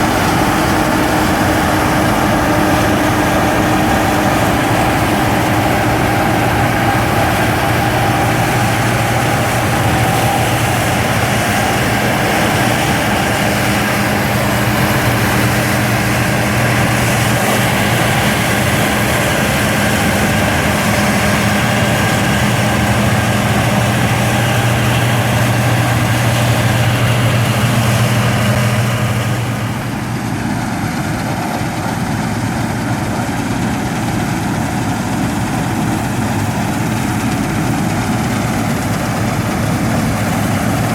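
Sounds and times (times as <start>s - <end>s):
combine harvester engine hum: 0.0s - 40.9s.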